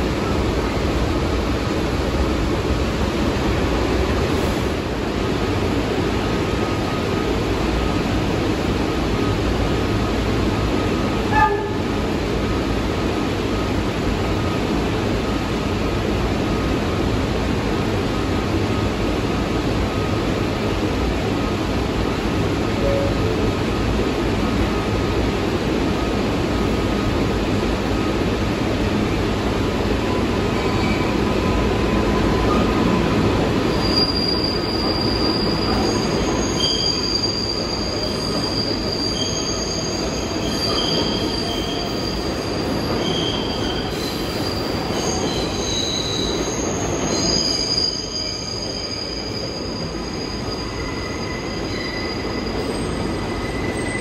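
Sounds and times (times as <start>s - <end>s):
idling subway train rumble: 0.0s - 54.0s.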